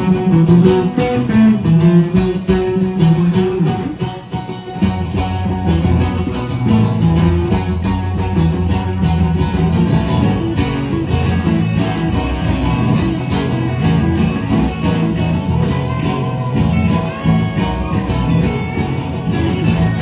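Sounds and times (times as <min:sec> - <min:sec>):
bluegrass band playing: 0:00.0 - 0:20.0.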